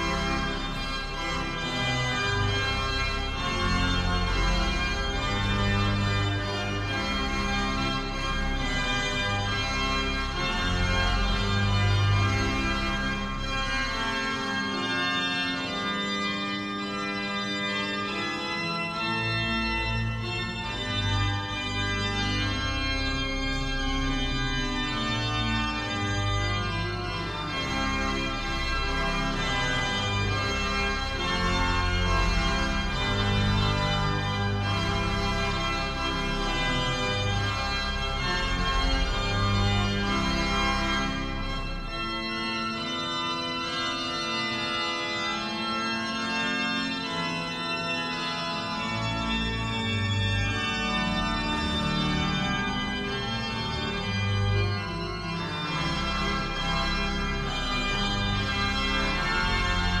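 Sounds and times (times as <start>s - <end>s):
deep organ pedal bass: 0.0s - 60.0s
pipe organ chords: 0.0s - 60.0s.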